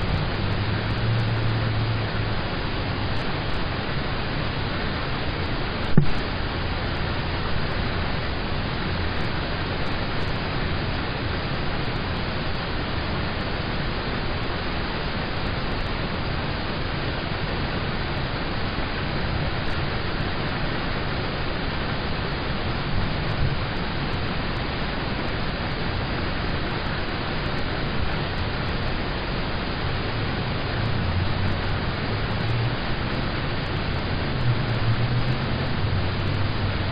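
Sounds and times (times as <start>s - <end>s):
rain on a car roof: 0.0s - 36.9s.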